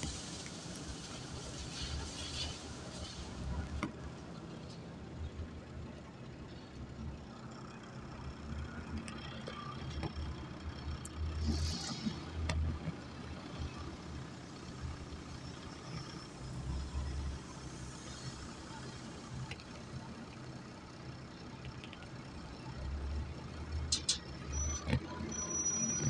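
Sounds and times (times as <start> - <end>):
wheel loader diesel engine: 0.0 - 26.0.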